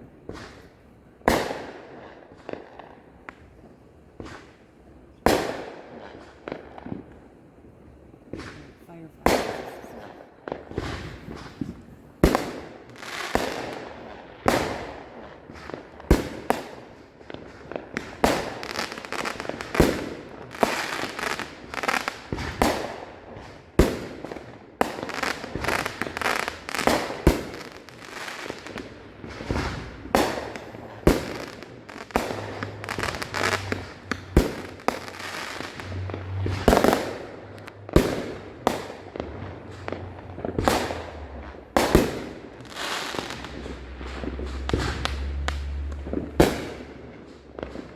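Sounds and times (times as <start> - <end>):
fireworks banging: 0.0 - 47.9.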